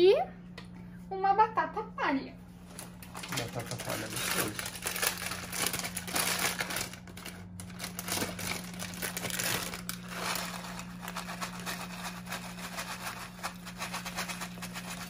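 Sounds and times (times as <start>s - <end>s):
snack bag crinkling: 2.8s - 15.0s.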